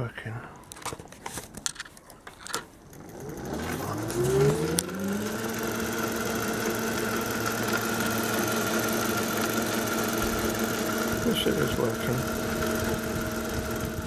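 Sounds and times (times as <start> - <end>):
electric motor whine: 2.5 - 14.0.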